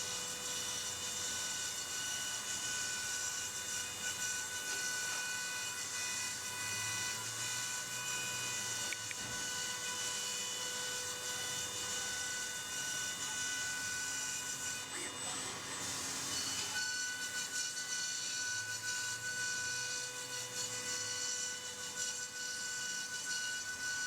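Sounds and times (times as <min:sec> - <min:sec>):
milling machine spindle whine: 0:00.0 - 0:24.0.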